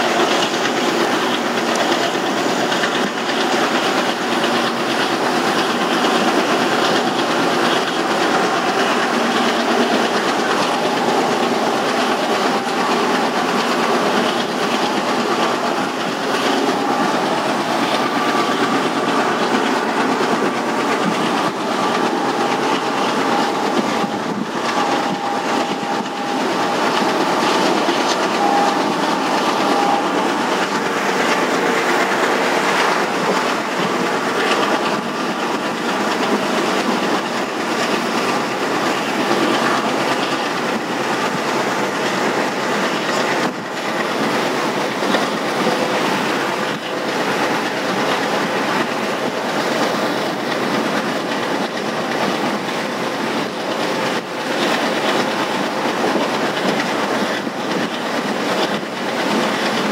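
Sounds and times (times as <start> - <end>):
train wheels rumbling and clattering: 0.0 - 59.9.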